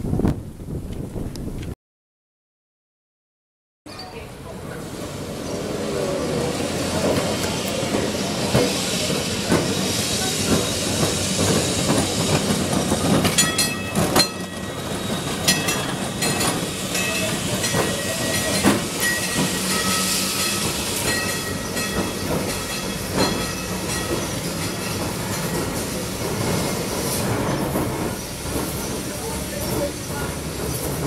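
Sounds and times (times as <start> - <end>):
tram wheels clacking on track: 3.9 - 31.0.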